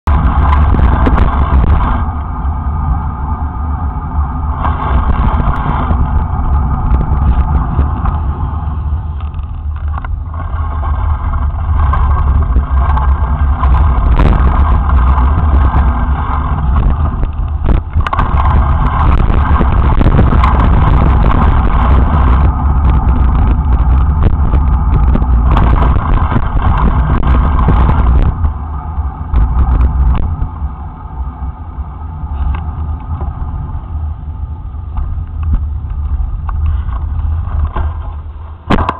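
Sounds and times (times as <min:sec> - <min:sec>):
deep steady wind: 0:00.0 - 0:38.9
road rumble: 0:00.0 - 0:38.9.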